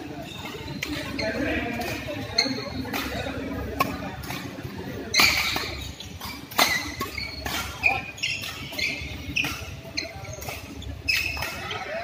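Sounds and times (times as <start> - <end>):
shoes squeaking on court: 0.0 - 12.0
rackets hitting shuttlecock: 0.5 - 11.9.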